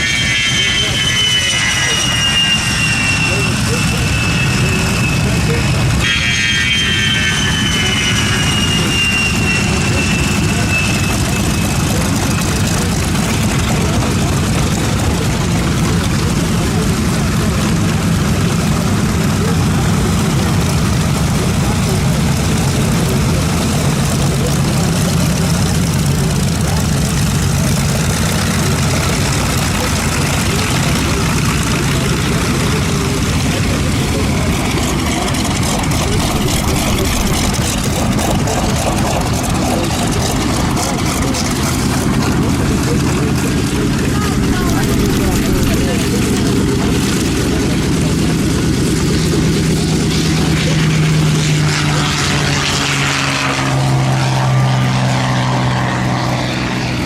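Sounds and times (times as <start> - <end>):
aircraft engine drone: 0.0 - 57.0
propeller airplane flying past: 0.0 - 57.0.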